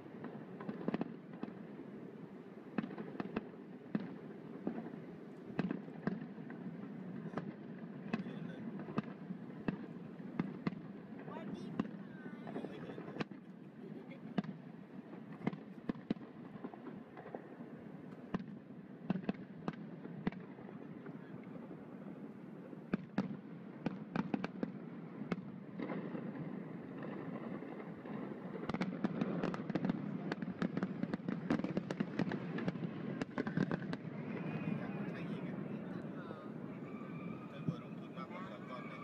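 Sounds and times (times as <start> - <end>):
fireworks bangs and crackles: 0.0 - 39.0.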